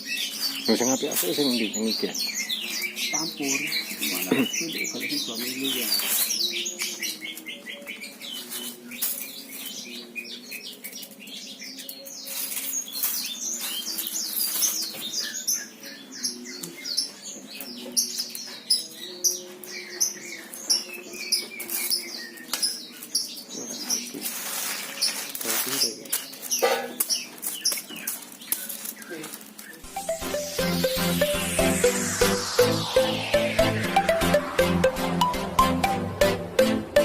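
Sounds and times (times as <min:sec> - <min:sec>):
small birds chirping: 0:00.0 - 0:32.2.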